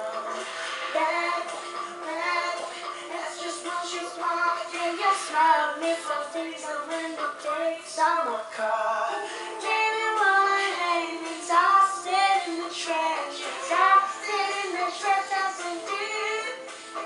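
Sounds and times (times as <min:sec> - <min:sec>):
girl singing pop melody: 0:00.0 - 0:17.0.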